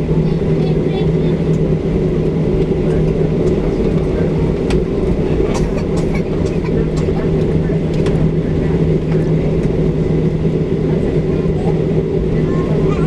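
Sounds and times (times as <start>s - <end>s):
aircraft cabin engine drone: 0.0s - 13.0s.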